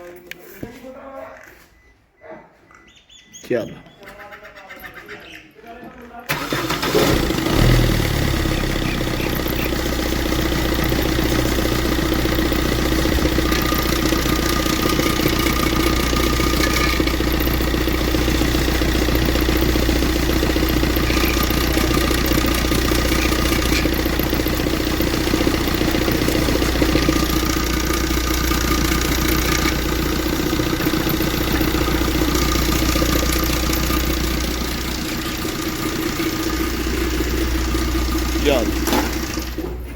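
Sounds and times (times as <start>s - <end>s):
car engine idling: 6.3s - 39.9s.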